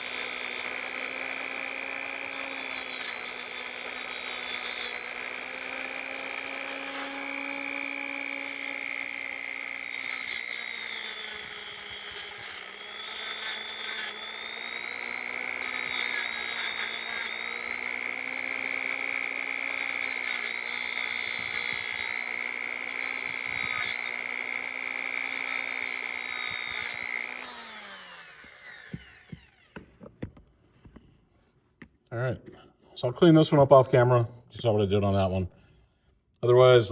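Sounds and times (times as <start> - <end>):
rotary tool whining: 0.0 - 30.3.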